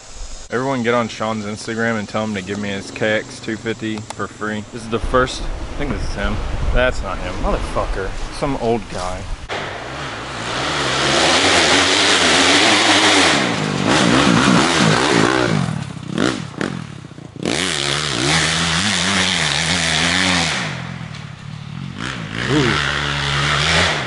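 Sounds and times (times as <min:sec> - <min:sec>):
dirt bike engine revving: 0:00.4 - 0:07.6, 0:09.4 - 0:24.0.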